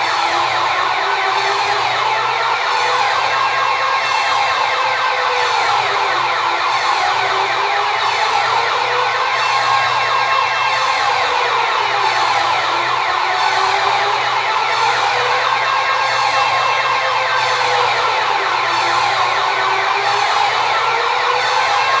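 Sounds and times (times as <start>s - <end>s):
electronic alarm warbling and wailing: 0.0s - 22.0s.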